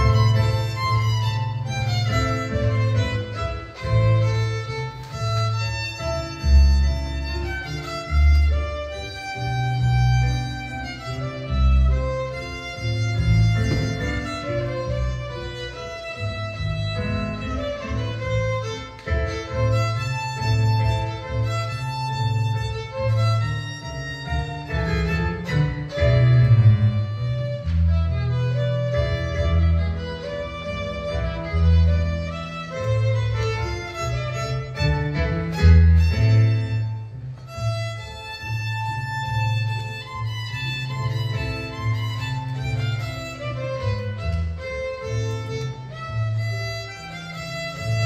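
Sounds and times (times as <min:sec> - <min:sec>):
violin melody: 0:00.0 - 0:48.0.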